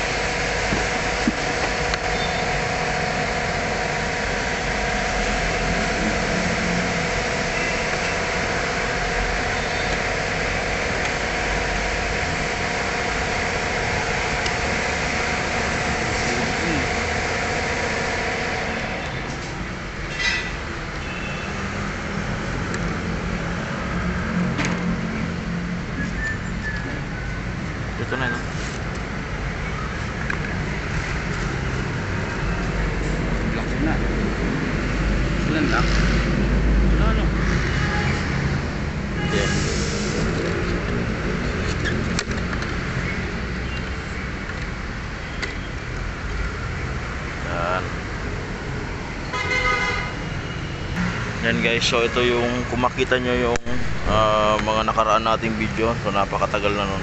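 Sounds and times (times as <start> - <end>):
motor vehicle rumbling: 0.0 - 57.0.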